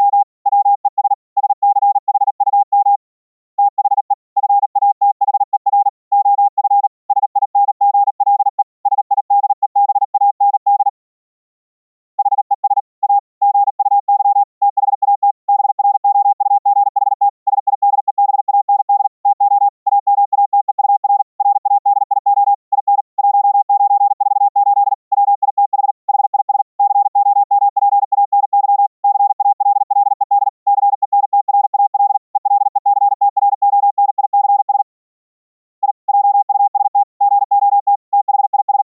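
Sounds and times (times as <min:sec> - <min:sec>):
high-speed morse code: 0:00.0 - 0:03.0, 0:03.6 - 0:10.9, 0:12.2 - 0:35.0, 0:35.8 - 0:38.9.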